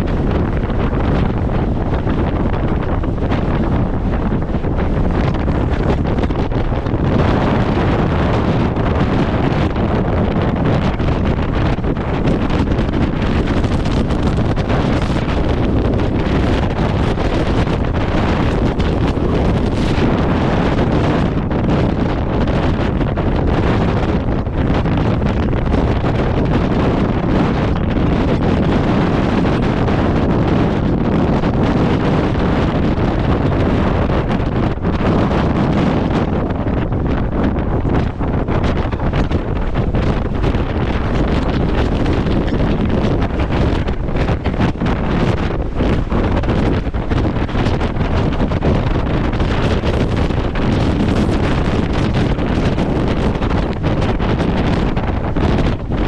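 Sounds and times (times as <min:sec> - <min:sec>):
strong wind buffeting microphone: 0:00.0 - 0:56.0.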